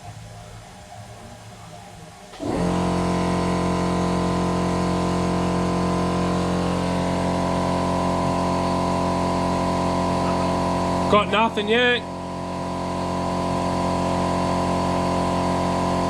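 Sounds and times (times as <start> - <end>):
electric motor humming: 2.3 - 16.0.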